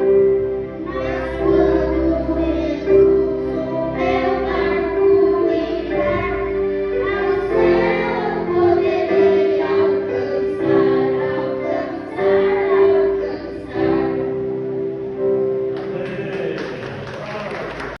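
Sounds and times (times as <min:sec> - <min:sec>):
children singing together: 0:00.0 - 0:14.6
musical accompaniment: 0:00.0 - 0:18.0.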